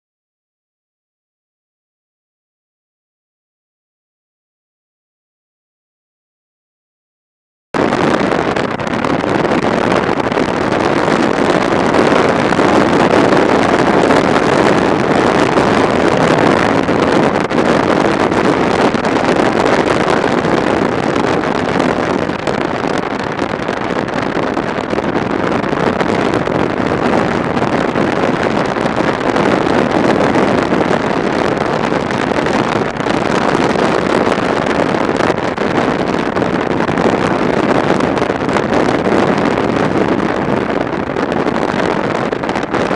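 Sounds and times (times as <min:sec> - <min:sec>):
wind noise over microphone: 0:07.8 - 0:42.9.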